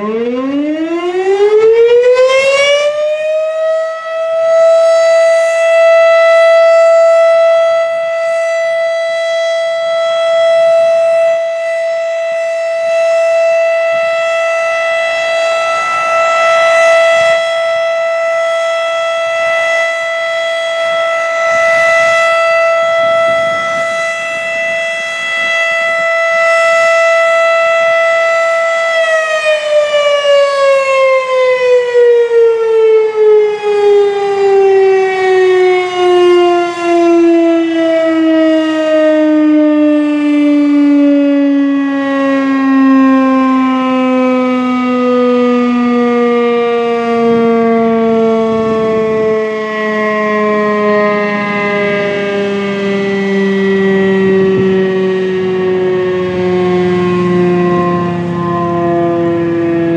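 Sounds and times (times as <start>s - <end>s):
warning siren winding down: 0.0s - 59.9s.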